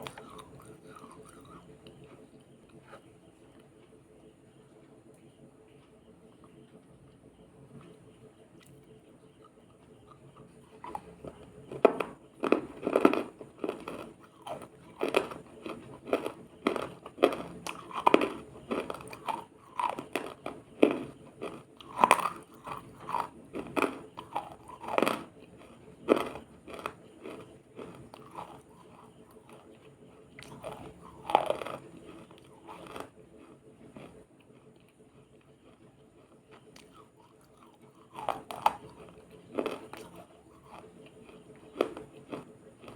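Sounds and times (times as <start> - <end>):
person chewing crunchy food: 0.0 - 4.0, 8.6 - 42.9.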